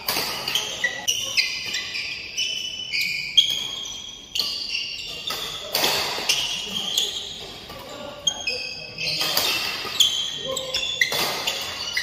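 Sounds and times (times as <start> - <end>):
shoes squeaking on floor: 0.0 - 12.0.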